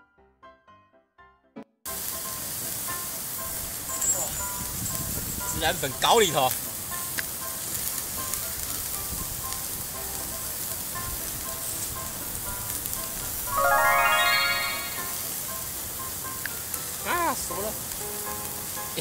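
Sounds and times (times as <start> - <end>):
skewers sizzling on a grill: 1.9 - 19.0.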